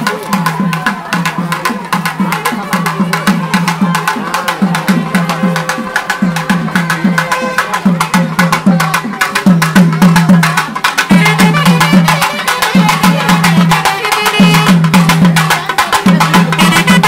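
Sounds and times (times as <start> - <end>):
reed pipe melody: 0.0 - 9.4, 10.4 - 17.0
barrel drums playing: 0.0 - 17.0.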